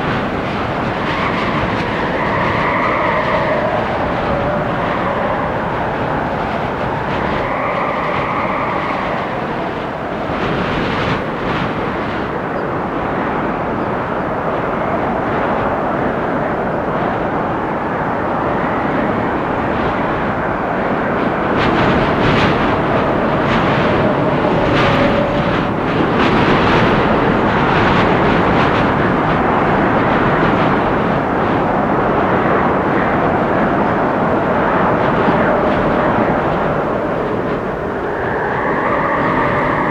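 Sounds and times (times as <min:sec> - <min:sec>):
faint whistling wind: 0:00.0 - 0:39.9
storm wind through trees: 0:00.0 - 0:39.9.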